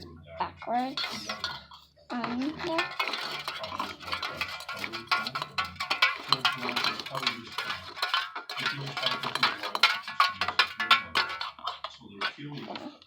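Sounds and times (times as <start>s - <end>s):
speech: 0.0s - 13.0s.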